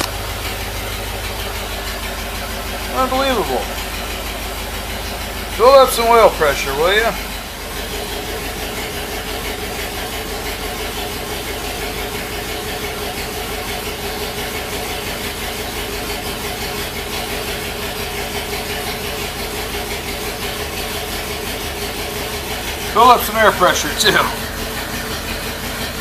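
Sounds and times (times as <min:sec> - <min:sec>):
bus engine idling: 0:00.0 - 0:26.0.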